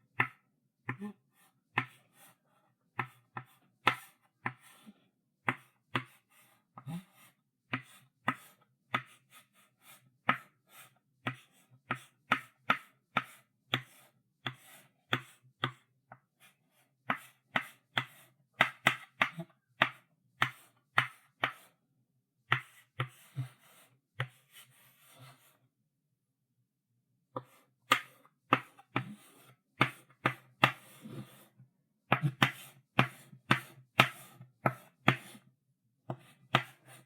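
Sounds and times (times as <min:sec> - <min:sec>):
chalk writing on a blackboard: 0:00.2 - 0:21.8, 0:22.5 - 0:25.6, 0:27.4 - 0:35.5, 0:36.1 - 0:37.0.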